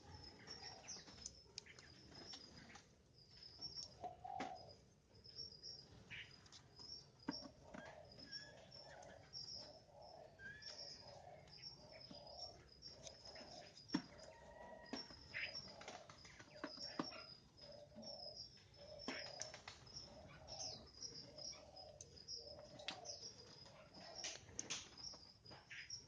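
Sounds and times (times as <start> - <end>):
caged birds chirping: 0.0 - 26.0.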